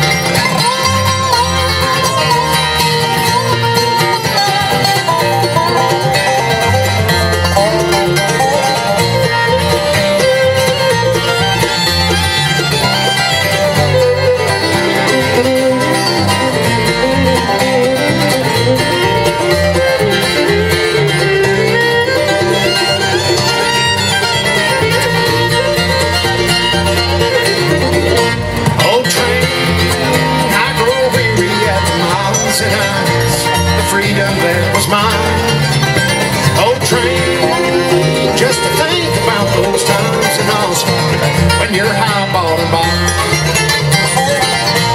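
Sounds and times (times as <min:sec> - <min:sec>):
bowed fiddle: 0:00.0 - 0:44.9
mandolin: 0:00.0 - 0:44.9
plucked upright bass: 0:00.0 - 0:44.9
strummed acoustic guitars: 0:00.0 - 0:44.9.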